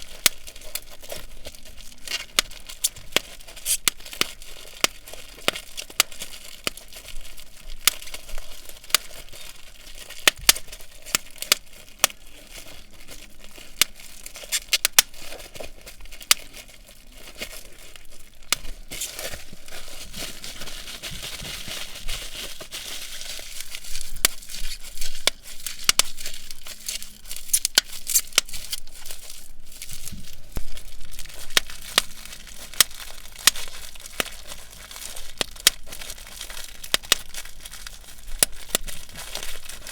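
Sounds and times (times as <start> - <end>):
bubble wrap crinkling and popping: 0.0 - 39.9.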